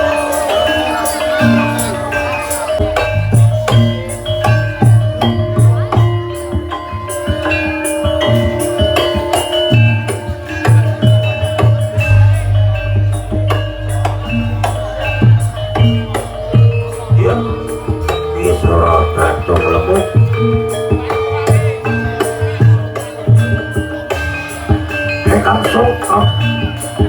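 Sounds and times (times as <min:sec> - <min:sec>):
tuned metal percussion melody: 0:00.0 - 0:27.0
low drum beats: 0:01.4 - 0:27.0.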